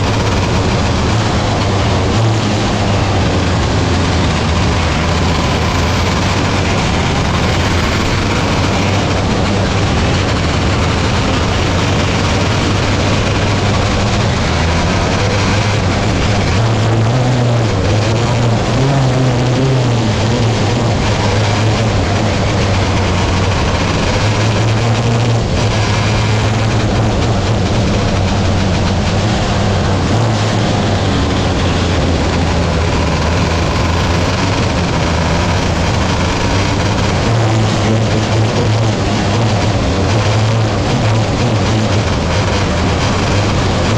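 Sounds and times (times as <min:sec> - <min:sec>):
race car engine running hard: 0:00.0 - 0:43.9
wind and track noise: 0:00.0 - 0:43.9.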